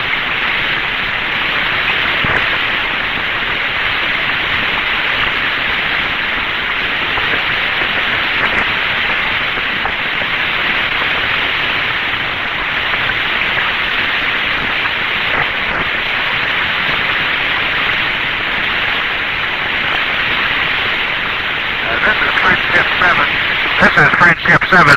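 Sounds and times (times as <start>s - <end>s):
dull static hiss: 0.0s - 24.9s.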